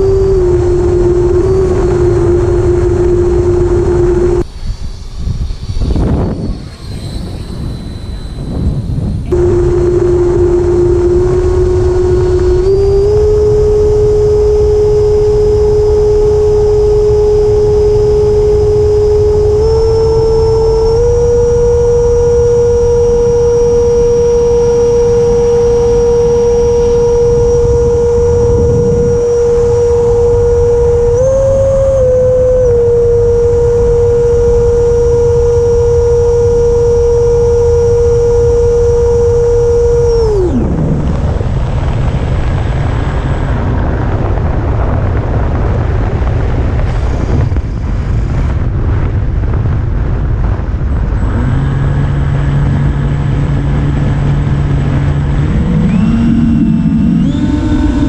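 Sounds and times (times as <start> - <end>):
low rumble: 0.0 - 4.6, 5.3 - 58.0
electric ducted fan whine: 0.0 - 58.0.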